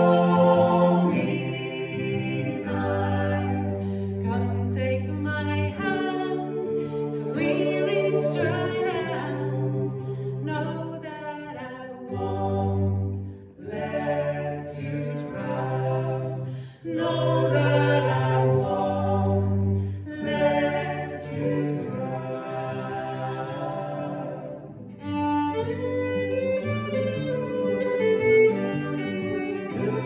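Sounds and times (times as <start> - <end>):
folk song in three-part harmony: 0.0 - 30.0.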